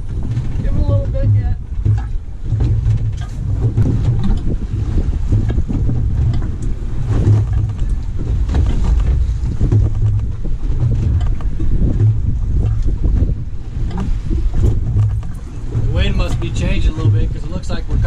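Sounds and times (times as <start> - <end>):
boat engine rumble: 0.0 - 18.0
wind buffeting microphone: 0.0 - 18.0.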